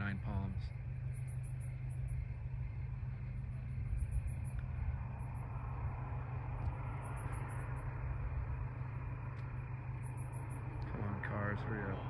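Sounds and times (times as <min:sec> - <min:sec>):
crickets chirping: 0:00.0 - 0:12.0
low rumble: 0:00.0 - 0:12.0.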